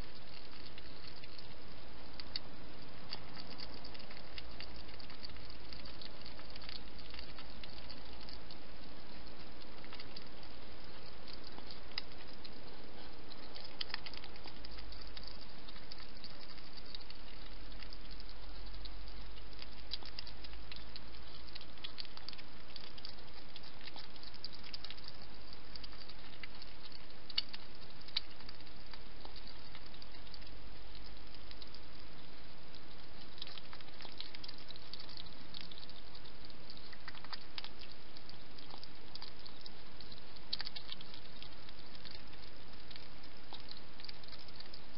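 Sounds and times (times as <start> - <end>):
hedgehog feeding clicks: 0.0 - 44.9
steady hiss: 0.0 - 44.9.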